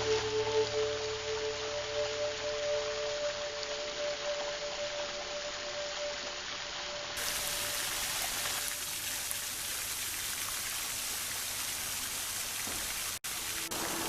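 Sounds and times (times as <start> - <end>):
water fountain splashing: 0.0 - 14.0.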